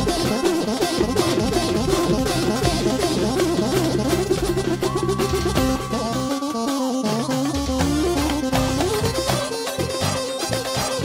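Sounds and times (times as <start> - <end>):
drum kit: 0.0 - 11.0
fast synthesizer melody: 0.0 - 11.0.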